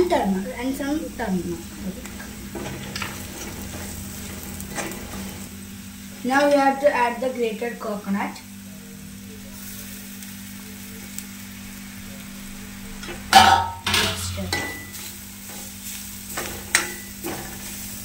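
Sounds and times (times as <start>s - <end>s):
low steady sizzle: 0.0s - 18.0s.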